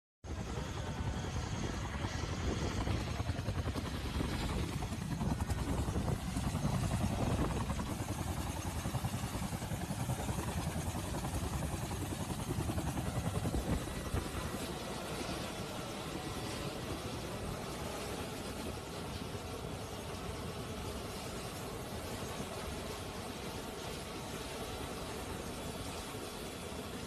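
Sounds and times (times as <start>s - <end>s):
helicopter rotor beating: 0.3s - 27.0s.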